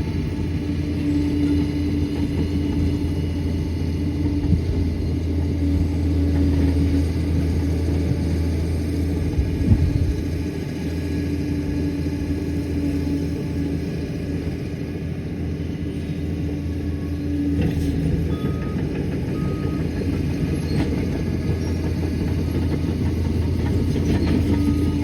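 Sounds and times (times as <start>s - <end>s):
dozer diesel engine running: 0.0s - 25.0s.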